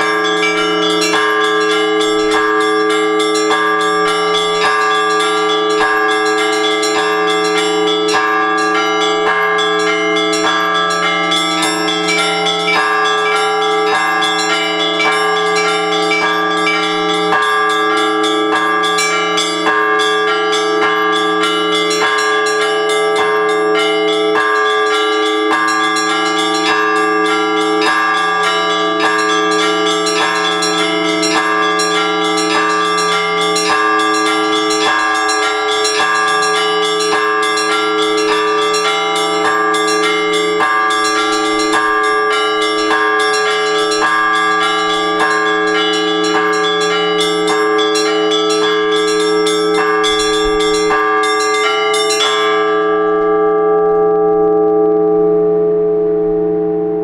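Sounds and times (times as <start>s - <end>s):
deep church bells ringing: 0.0s - 57.0s
small high church bells: 0.0s - 57.0s.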